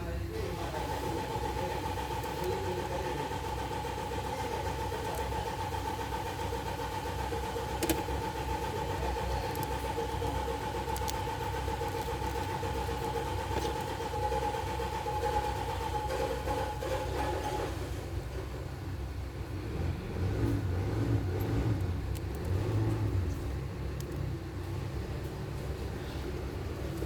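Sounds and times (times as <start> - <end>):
machine hum with low rumble: 0.0 - 27.0.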